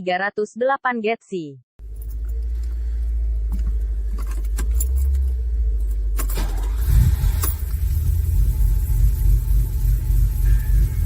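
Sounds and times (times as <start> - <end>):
car engine running: 1.8 - 11.0.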